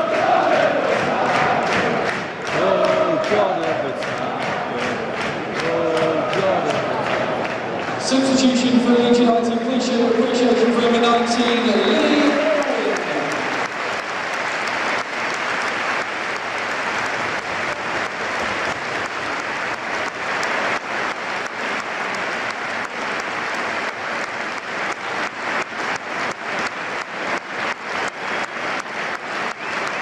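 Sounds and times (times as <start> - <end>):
stadium crowd applauding: 0.0 - 30.0.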